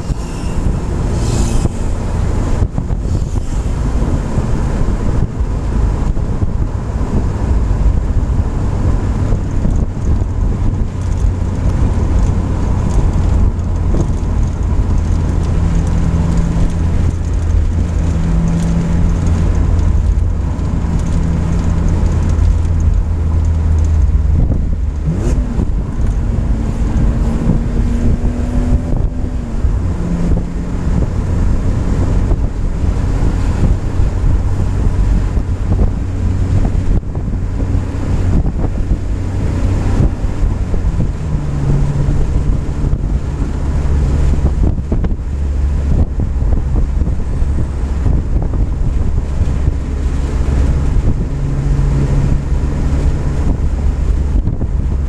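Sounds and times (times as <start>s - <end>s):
car engine: 0.0s - 55.0s
tyre and wind noise: 0.0s - 55.0s.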